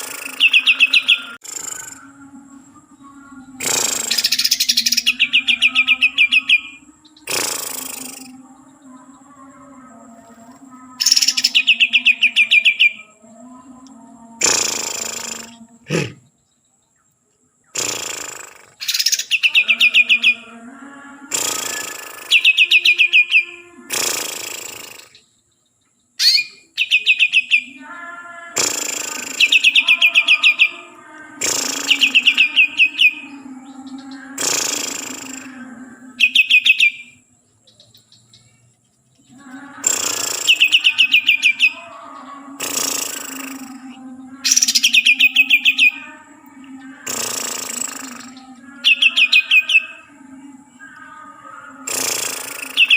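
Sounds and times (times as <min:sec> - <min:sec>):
bird singing harsh notes and trills: 0:00.0 - 0:52.9.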